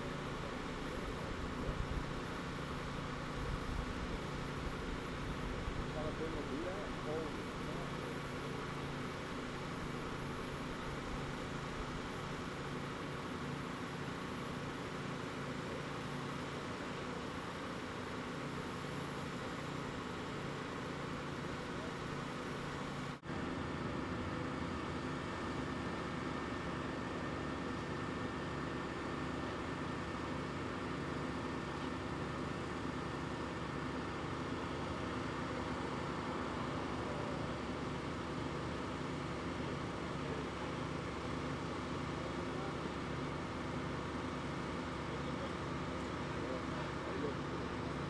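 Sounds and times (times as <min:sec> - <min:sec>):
heavy vehicle engines idling: 0:00.0 - 0:48.0.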